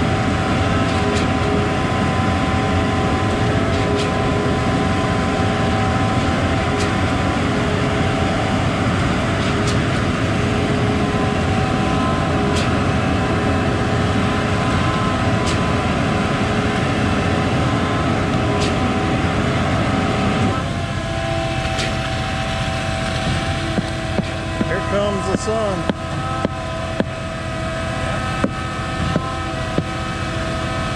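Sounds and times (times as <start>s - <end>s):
truck engine drone: 0.0s - 30.9s.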